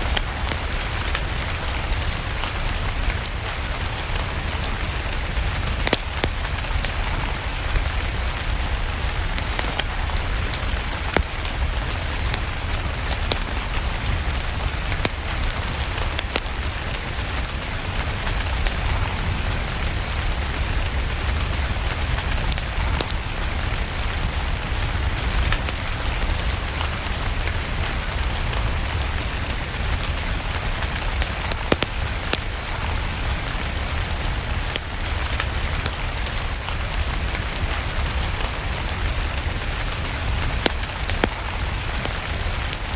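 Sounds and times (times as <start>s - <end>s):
steady rain: 0.0s - 42.9s
wood fire crackling and popping: 0.0s - 42.9s.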